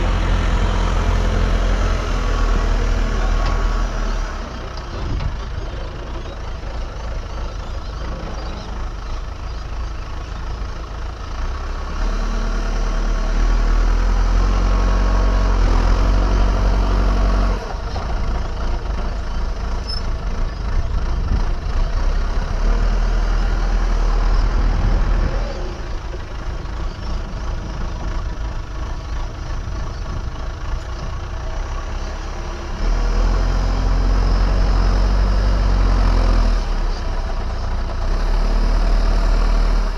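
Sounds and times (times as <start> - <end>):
diesel engine working under load: 0.0 - 39.9.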